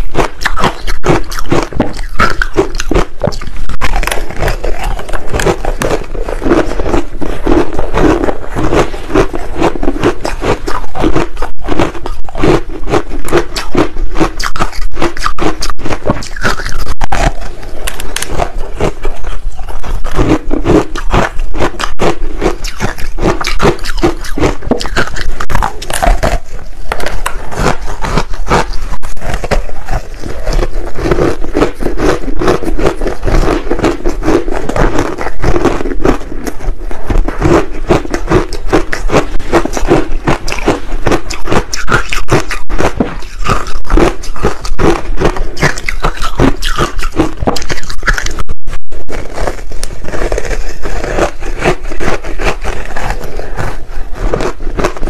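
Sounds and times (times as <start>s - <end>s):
ice balls crunching being chewed: 0.0s - 55.0s.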